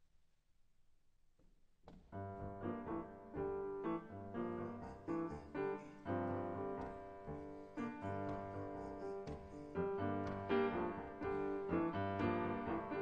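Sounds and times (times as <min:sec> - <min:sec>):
solo piano music: 0:02.1 - 0:13.0.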